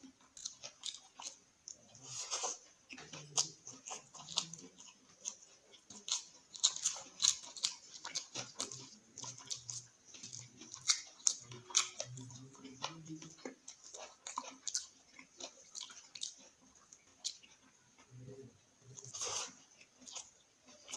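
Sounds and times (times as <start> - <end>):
chewing food with wet smacks: 0.0 - 20.9.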